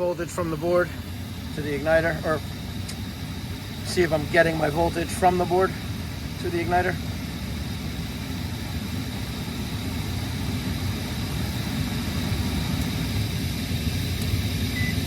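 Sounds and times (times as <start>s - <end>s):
faint high whine: 0.0s - 15.0s
furnace motors humming: 0.0s - 15.0s.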